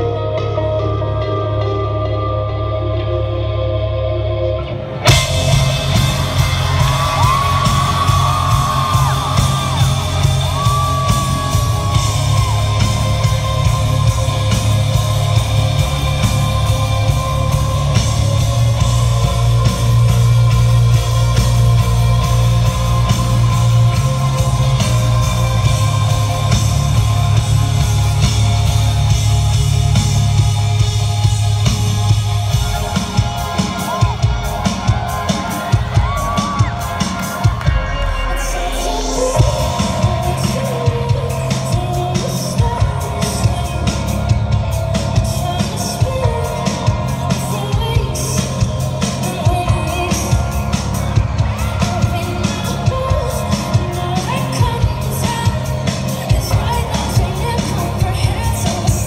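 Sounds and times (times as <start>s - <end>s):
loud music with deep bass drone: 0.0s - 59.0s
fans screaming and whistling: 5.0s - 30.2s, 30.8s - 59.0s.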